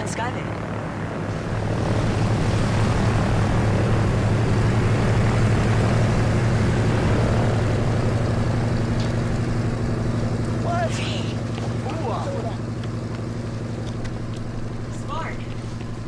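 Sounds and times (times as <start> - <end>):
turboprop engines humming: 0.0 - 16.0.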